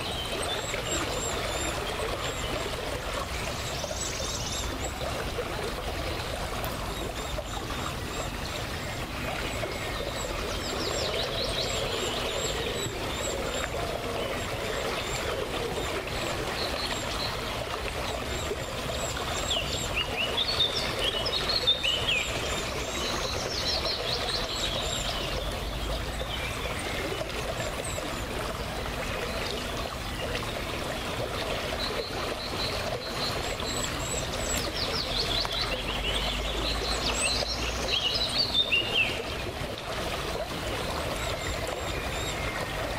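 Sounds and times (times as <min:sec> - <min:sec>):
river water pouring over weir: 0:00.0 - 0:42.9
songbirds chirping: 0:00.0 - 0:42.9.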